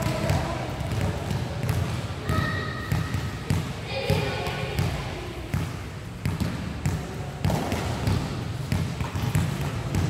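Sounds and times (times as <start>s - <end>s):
basketball bouncing on court: 0.0s - 10.0s.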